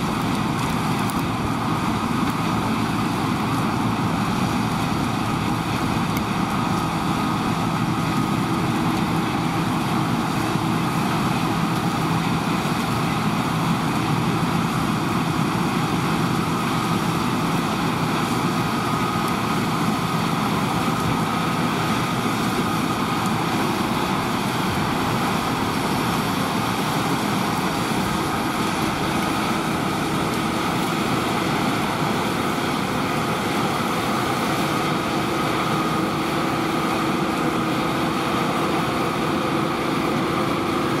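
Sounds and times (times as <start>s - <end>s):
machinery drone: 0.0s - 41.0s.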